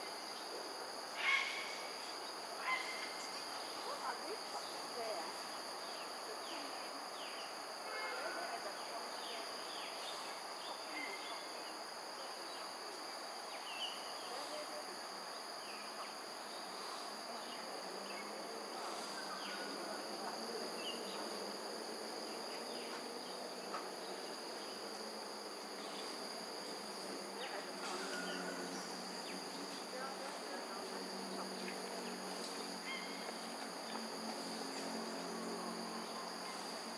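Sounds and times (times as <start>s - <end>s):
high-pitched insect chorus: 0.0s - 36.9s.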